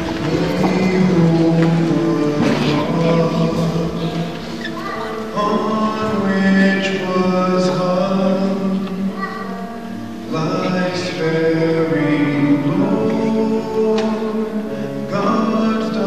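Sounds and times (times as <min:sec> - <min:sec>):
musical accompaniment: 0:00.0 - 0:16.0.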